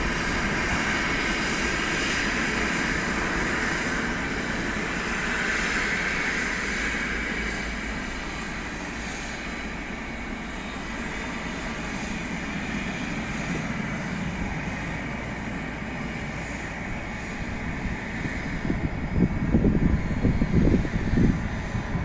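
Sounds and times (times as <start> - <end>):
jet engines roaring: 0.0 - 22.0
low rumbling gusts: 0.0 - 22.0.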